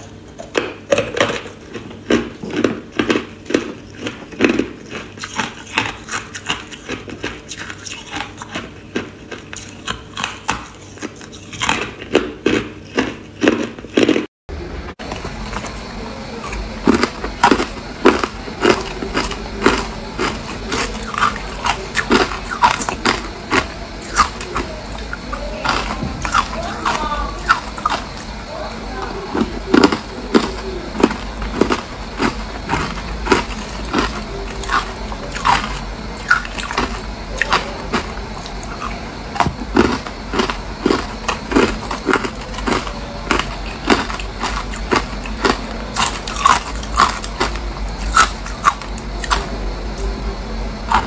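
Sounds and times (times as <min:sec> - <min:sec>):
ice crunching being chewed: 0:00.0 - 0:14.3, 0:15.0 - 0:51.0
low steady hum: 0:00.0 - 0:51.0.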